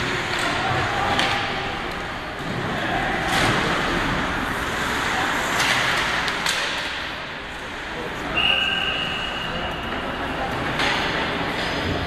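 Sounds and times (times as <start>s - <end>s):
hockey sticks and puck clacking: 0.0s - 12.0s.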